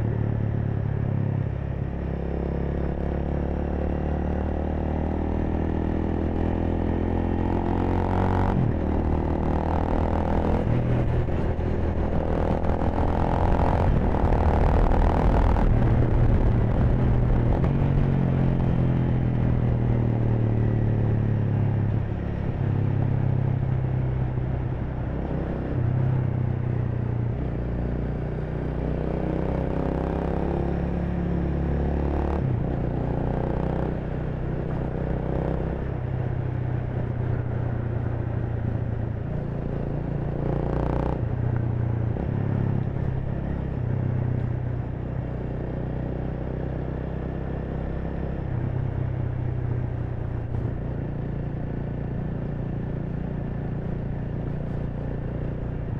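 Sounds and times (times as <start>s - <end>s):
motorcycle engine revving: 2.1s - 55.9s.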